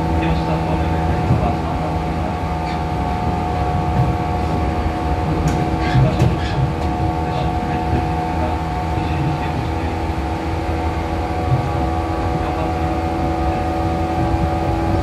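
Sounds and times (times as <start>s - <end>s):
train motor hum: 0.0s - 15.0s
wheel-on-rail rumble: 0.0s - 15.0s.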